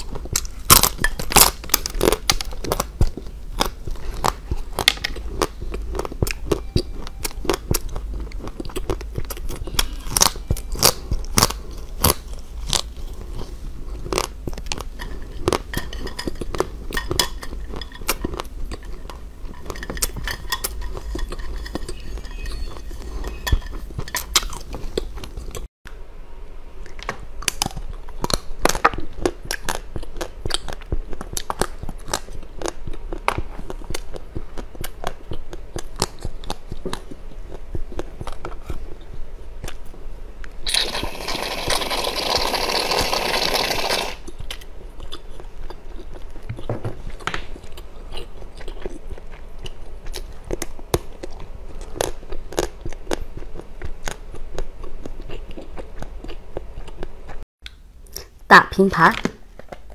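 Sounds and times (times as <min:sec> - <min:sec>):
crunching hard candy: 0:00.0 - 0:25.7, 0:27.3 - 0:39.9, 0:40.7 - 0:58.3.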